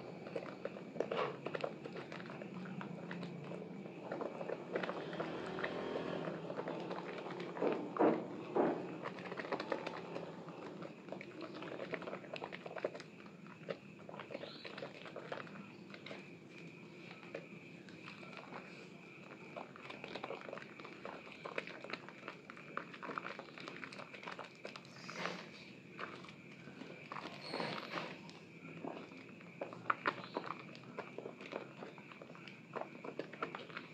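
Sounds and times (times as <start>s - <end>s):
soap squelching in hands: 0.0s - 33.9s.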